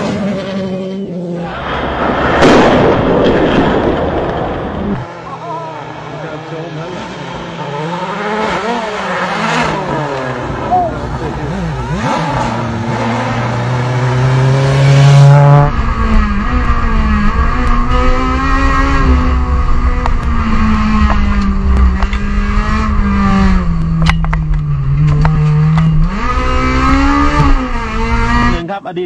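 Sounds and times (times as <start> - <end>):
rally car engine revving: 0.0 - 28.8.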